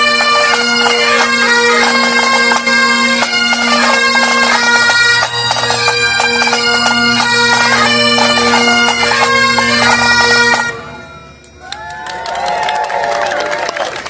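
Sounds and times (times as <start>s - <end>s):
bagpipes playing: 0.0s - 11.7s.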